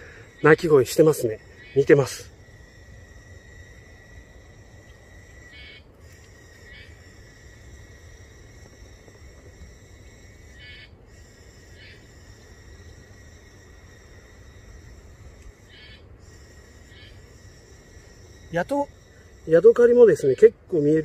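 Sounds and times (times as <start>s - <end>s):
cicada harsh bursts: 0.0s - 21.0s
cicada high whine: 0.0s - 21.0s.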